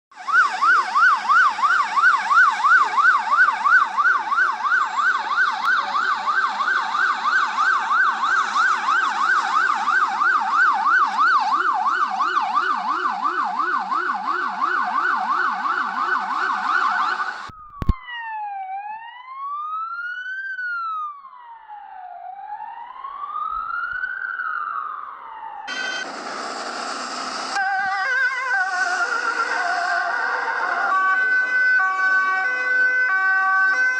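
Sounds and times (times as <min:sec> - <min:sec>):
ambulance siren: 0:00.1 - 0:33.9.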